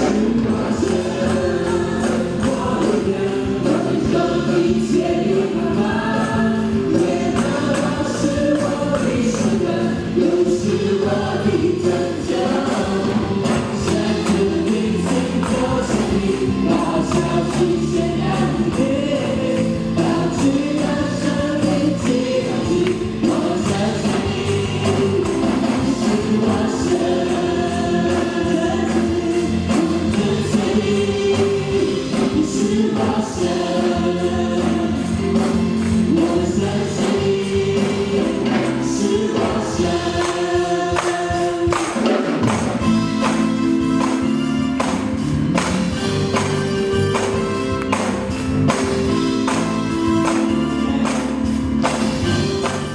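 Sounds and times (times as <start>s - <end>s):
keyboard and band: 0.0s - 52.9s
mixed voices singing praise song: 0.0s - 52.9s
tambourine shaken: 0.0s - 52.9s.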